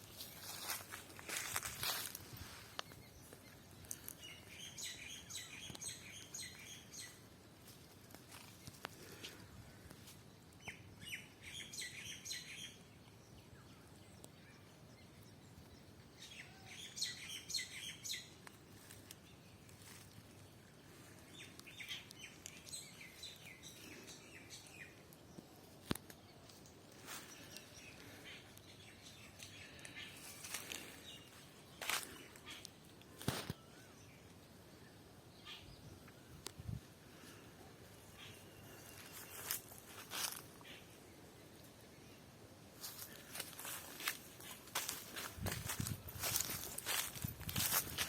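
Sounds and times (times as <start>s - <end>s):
faint outdoor background: 0.0s - 48.0s
small birds chirping: 0.0s - 48.0s.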